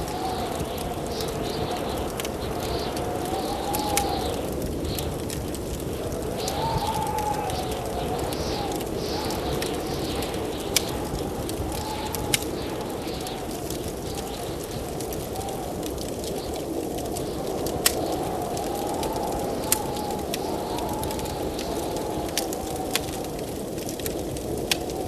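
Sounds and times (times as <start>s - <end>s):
wind howling in gusts: 0.0s - 25.0s
wood fire crackling: 0.0s - 25.0s.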